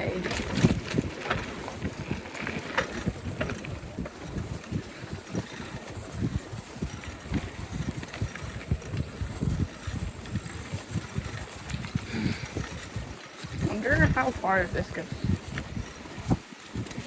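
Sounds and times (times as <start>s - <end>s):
bicycle rumbling over dirt trail: 0.0s - 17.0s
wind buffeting microphone: 0.0s - 17.0s.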